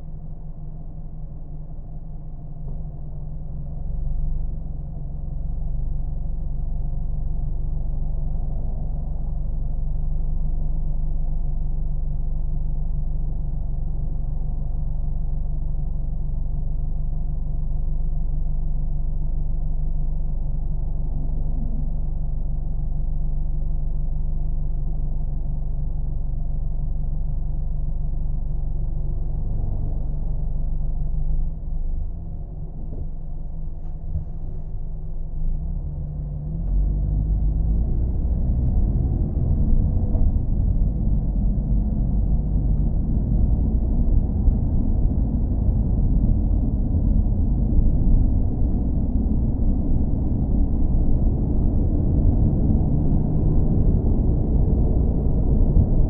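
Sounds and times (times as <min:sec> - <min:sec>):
car engine low drone: 0:00.0 - 0:56.0.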